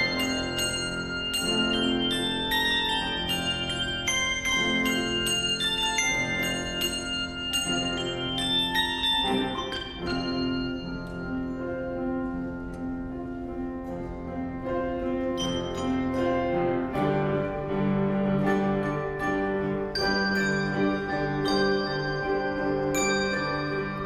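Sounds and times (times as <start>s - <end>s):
instrumental music with ringing notes: 0.0s - 24.0s.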